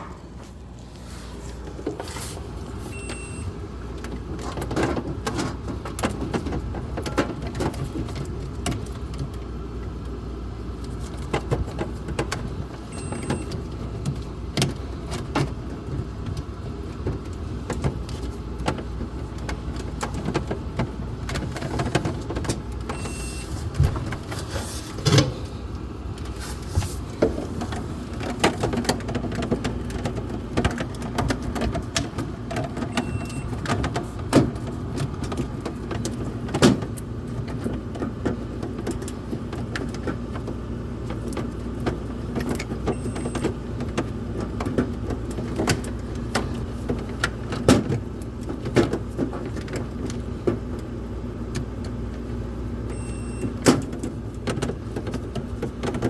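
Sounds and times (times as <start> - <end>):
clicks and rattles of parts: 4.0 - 9.4, 10.8 - 50.9.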